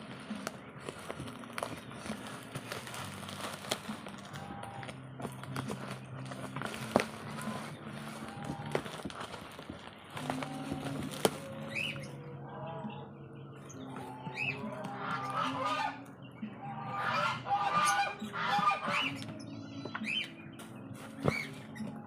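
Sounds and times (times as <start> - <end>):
geese honking: 0.0 - 13.2, 13.8 - 20.3.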